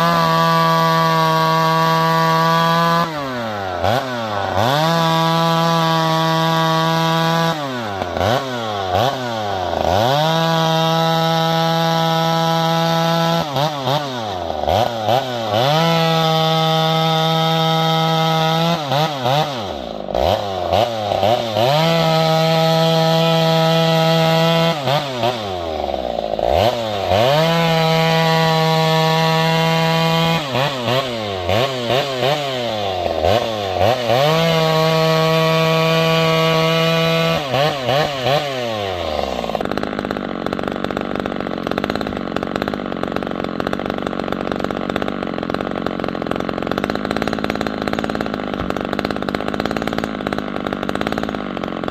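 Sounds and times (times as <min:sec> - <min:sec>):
chainsaw revving: 0:00.0 - 0:51.9
rough steady engine noise: 0:00.0 - 0:51.9.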